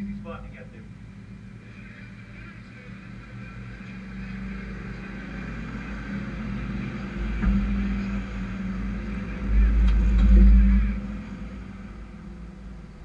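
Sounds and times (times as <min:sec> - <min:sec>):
race truck engines: 0:00.0 - 0:13.0.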